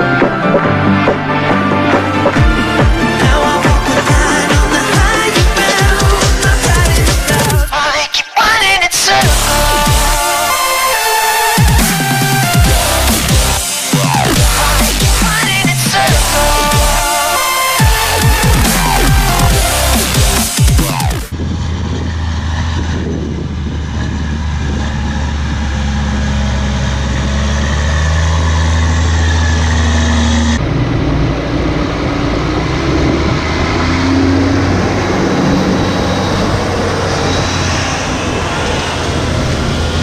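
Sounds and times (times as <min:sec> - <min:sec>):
rising engine tone: 0:00.0 - 0:08.0, 0:08.6 - 0:40.0
tractor diesel engine drone: 0:00.0 - 0:40.0.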